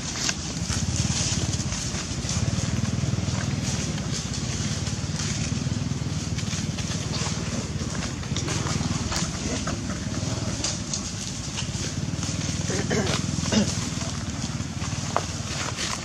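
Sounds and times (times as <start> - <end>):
dry leaves crackling underfoot: 0.0 - 16.0.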